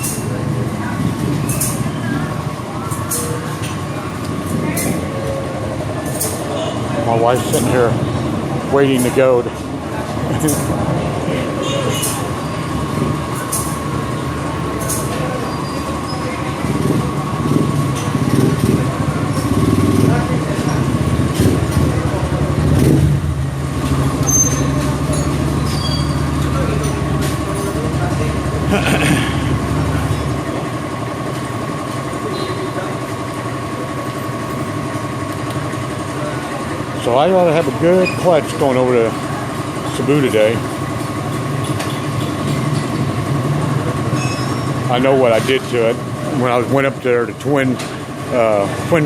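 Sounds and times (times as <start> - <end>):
engine running with whine: 0.0 - 49.0.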